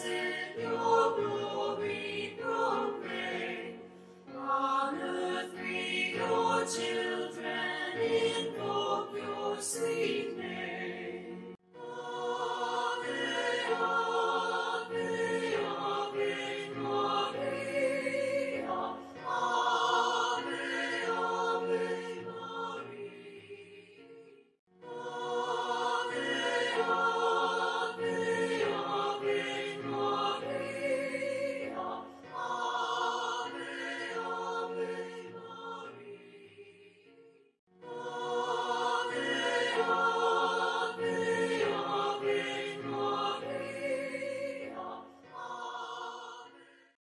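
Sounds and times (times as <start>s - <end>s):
choir singing a hymn: 0.0s - 47.0s.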